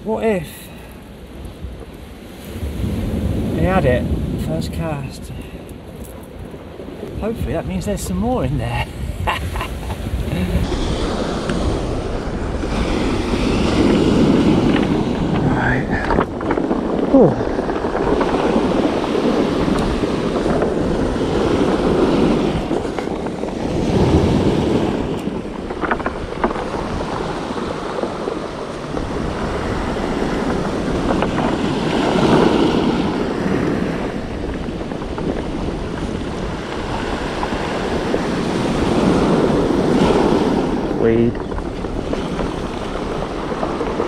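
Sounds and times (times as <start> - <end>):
surf breaking on cobble beach: 0.0 - 44.0
wind buffeting microphone: 0.0 - 44.0.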